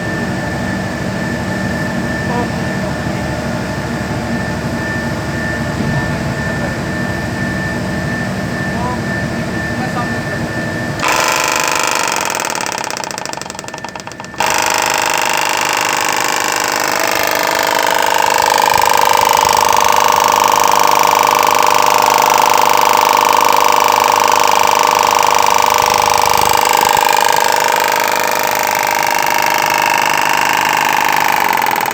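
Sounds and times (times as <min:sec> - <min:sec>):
compressor mechanical hum and whine: 0:00.0 - 0:31.9.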